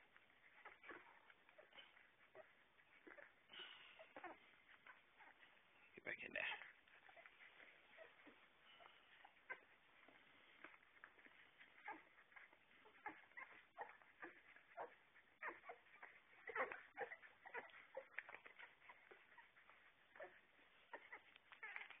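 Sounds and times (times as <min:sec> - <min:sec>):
puppies whimpering: 0:00.0 - 0:22.0.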